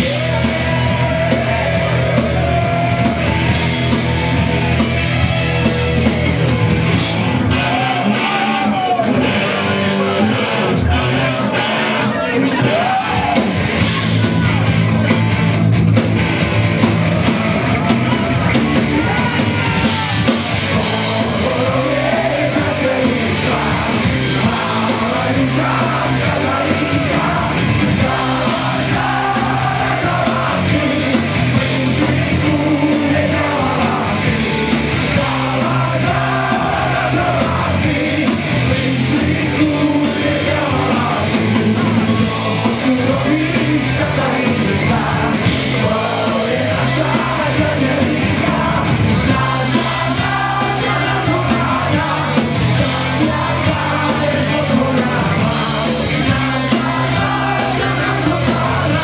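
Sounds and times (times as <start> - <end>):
bass guitar: 0.0 - 59.0
drums and cymbals: 0.0 - 59.0
electric guitar: 0.0 - 59.0.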